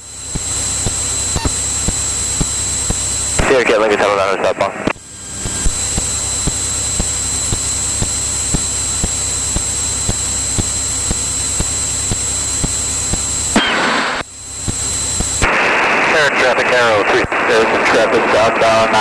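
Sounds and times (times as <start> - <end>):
aircraft engine and airflow noise: 0.0 - 19.0
faint high whine: 0.0 - 19.0.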